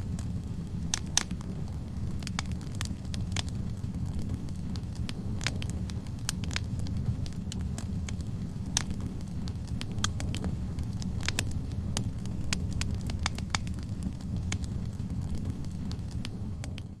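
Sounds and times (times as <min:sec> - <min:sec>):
fire crackling and popping: 0:00.0 - 0:17.0
logs burning with low rumble: 0:00.0 - 0:17.0.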